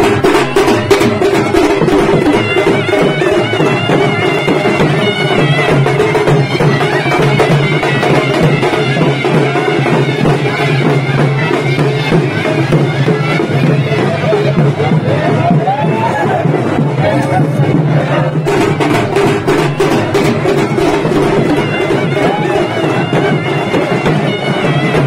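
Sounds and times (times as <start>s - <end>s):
drumming: 0.0s - 25.0s
reedy wind instrument melody: 0.0s - 25.0s.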